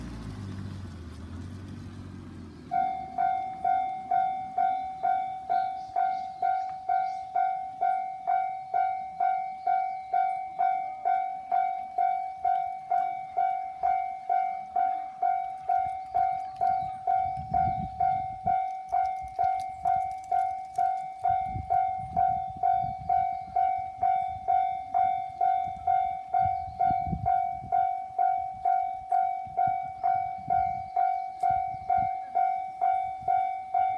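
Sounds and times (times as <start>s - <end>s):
train rumble: 0.0s - 7.8s, 10.5s - 19.9s, 21.2s - 33.9s
level crossing warning bell: 2.7s - 33.9s.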